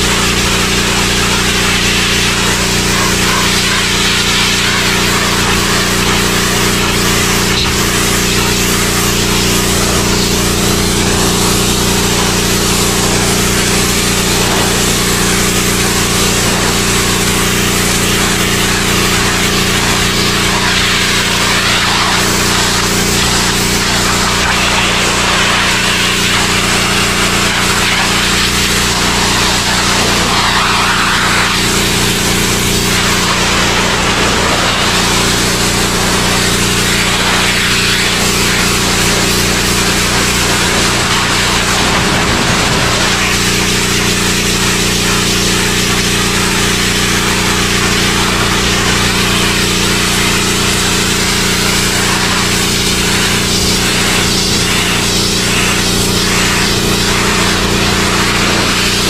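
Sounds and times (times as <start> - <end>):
pressure washer motor humming: 0.0 - 59.0
water jet spraying on plastic: 0.0 - 59.0.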